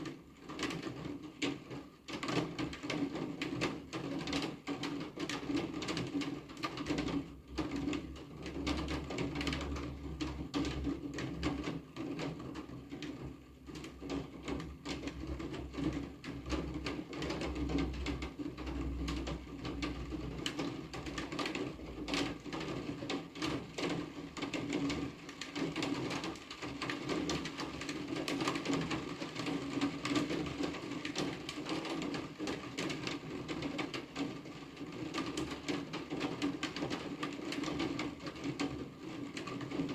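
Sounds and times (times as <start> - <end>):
raindrops on a hard surface: 0.0 - 39.9
steady rain: 0.0 - 39.9.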